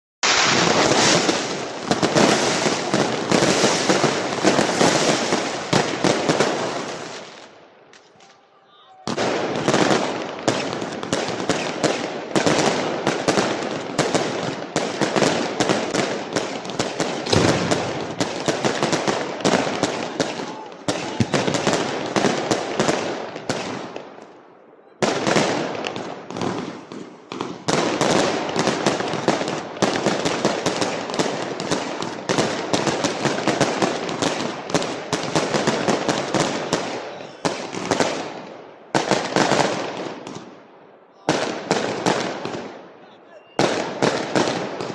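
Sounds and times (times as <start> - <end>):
firecrackers cracking and banging: 0.2 - 8.4, 9.1 - 24.4, 25.0 - 40.5, 43.6 - 44.9.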